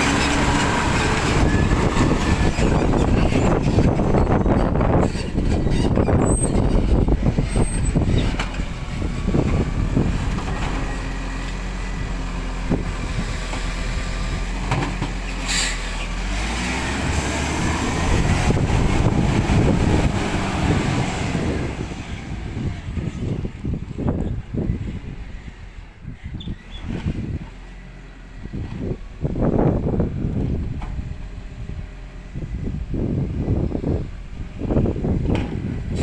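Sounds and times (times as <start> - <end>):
truck engine running and revving: 0.0 - 36.0.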